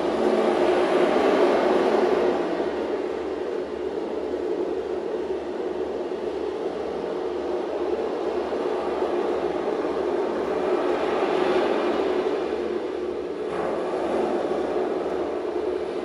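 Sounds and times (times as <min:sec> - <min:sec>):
sea storm rushing and rumbling: 0:00.0 - 0:16.0.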